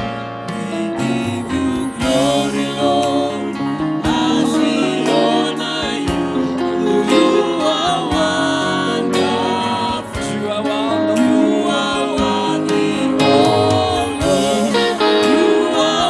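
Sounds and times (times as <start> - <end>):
guitar: 0.0 - 16.0
percussion hits: 0.0 - 16.0
person singing melody: 0.5 - 16.0.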